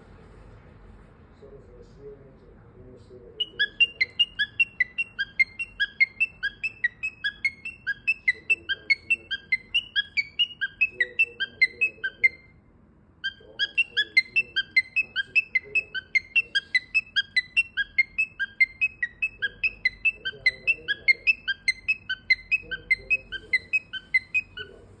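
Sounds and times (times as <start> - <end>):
parrot chirping rapidly: 3.4 - 12.6, 13.2 - 25.0.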